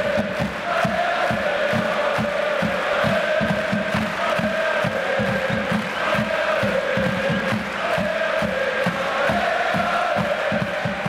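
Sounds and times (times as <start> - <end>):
crowd singing a chant: 0.0 - 11.0
steady low drum beat: 0.0 - 11.0.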